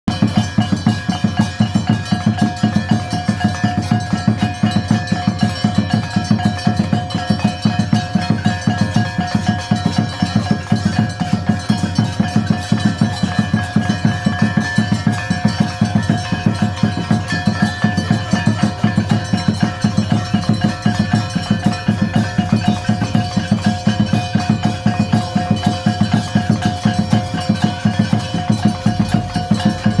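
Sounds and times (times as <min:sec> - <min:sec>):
bell ringing: 0:00.1 - 0:30.0
drum beaten in fast rhythm: 0:00.1 - 0:30.0.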